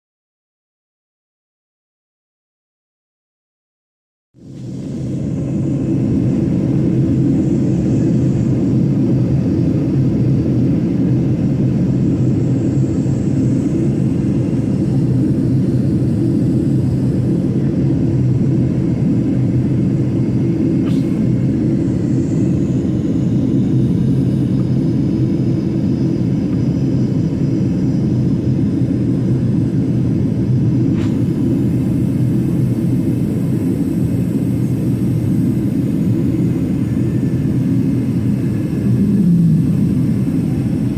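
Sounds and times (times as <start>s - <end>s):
jet engines rumbling: 4.4s - 40.9s.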